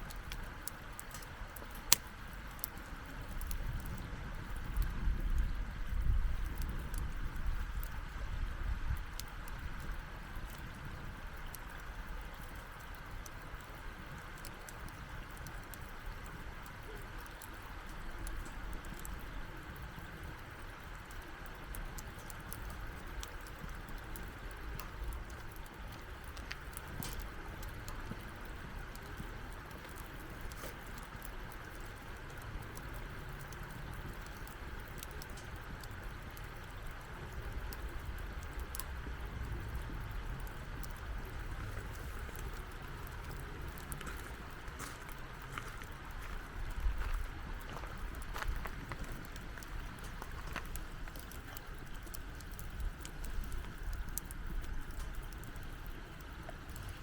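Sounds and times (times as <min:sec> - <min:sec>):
campfire crackling and popping: 0:00.0 - 0:57.0
low rumble of wind: 0:00.0 - 0:57.0.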